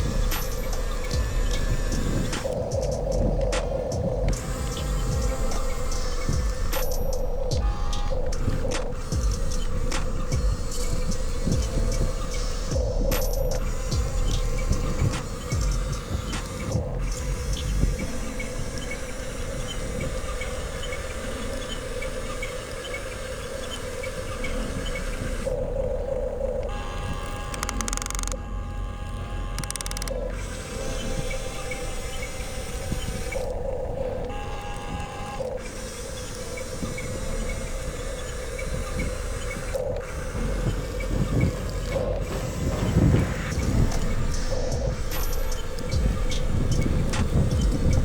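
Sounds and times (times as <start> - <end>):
toy excavator electric motors running: 0.0 - 48.0.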